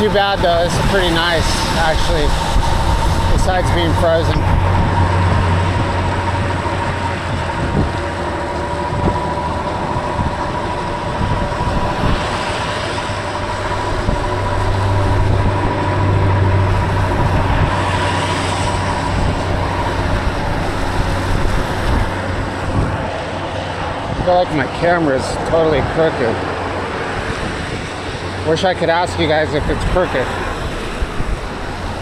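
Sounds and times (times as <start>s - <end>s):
low rumble: 0.0s - 32.0s
thin high whine: 0.0s - 32.0s
wind buffeting microphone: 0.0s - 32.0s.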